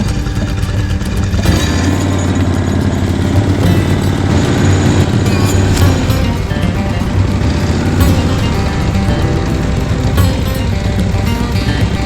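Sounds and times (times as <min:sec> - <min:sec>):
background music: 0:00.0 - 0:12.0
engine running: 0:00.0 - 0:12.0.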